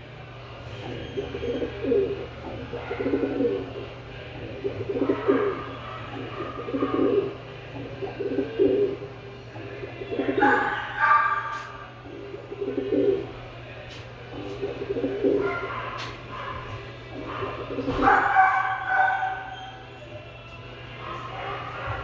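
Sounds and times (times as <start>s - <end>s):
pigeon cooing: 0.0s - 22.0s.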